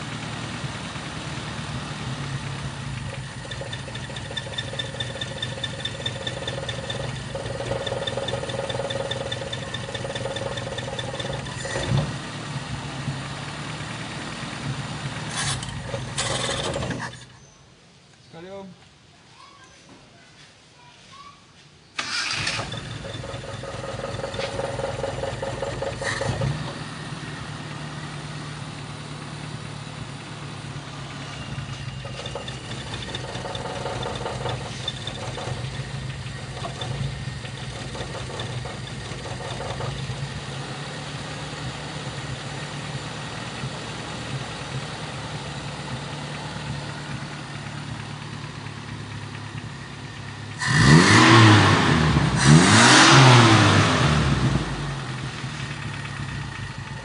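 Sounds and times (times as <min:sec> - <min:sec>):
car engine idling and revving: 0:00.0 - 0:17.5, 0:22.0 - 0:57.0.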